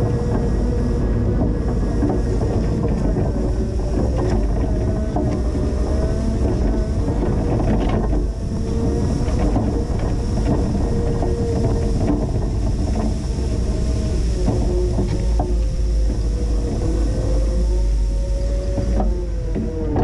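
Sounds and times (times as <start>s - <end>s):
forklift engine drone: 0.0s - 20.0s
whine drifting in pitch: 0.0s - 20.0s.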